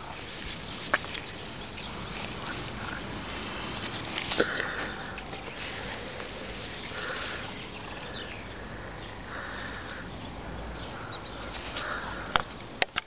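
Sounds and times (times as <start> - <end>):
rustling grass: 0.0 - 12.8.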